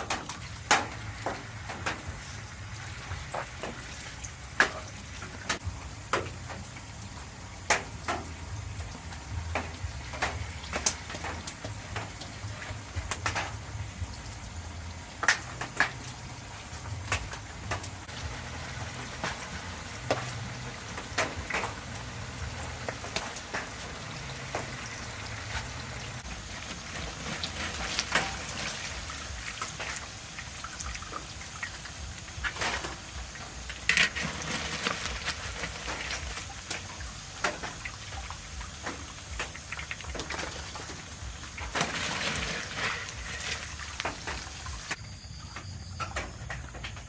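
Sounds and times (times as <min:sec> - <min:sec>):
food frying in hot oil: 0:00.0 - 0:47.0.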